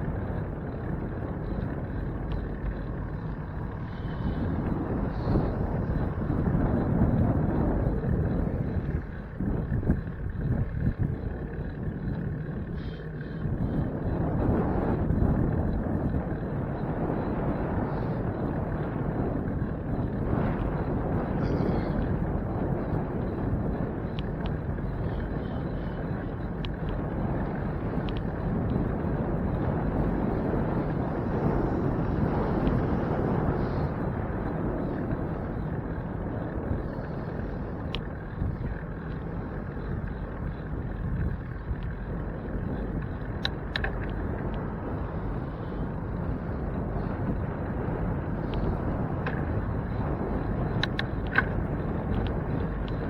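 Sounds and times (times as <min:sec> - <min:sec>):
faint ticks: 0:00.0 - 0:53.0
road noise: 0:00.0 - 0:53.0
rushing wind: 0:00.0 - 0:53.0.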